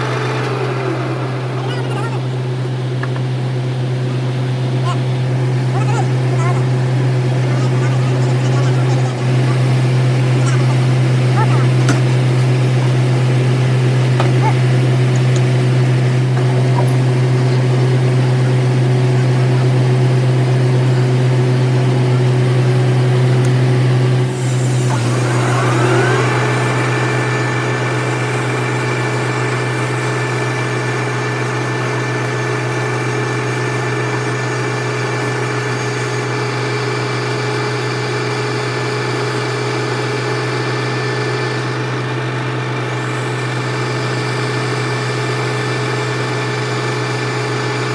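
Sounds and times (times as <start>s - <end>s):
lathe whine rising in pitch: 0.0s - 47.9s
metal lathe humming: 0.0s - 47.9s.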